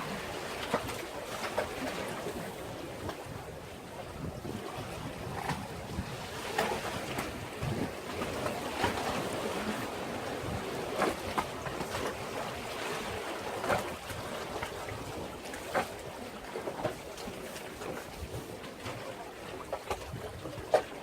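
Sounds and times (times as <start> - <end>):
waves washing against breakwater: 0.0 - 21.0.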